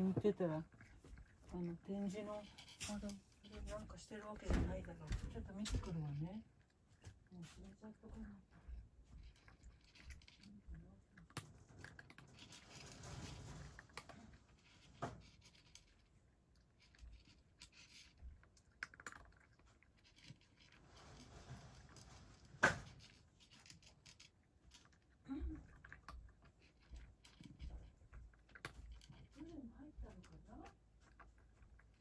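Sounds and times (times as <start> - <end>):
cat crunching dry food: 0.6 - 4.3, 8.8 - 32.0.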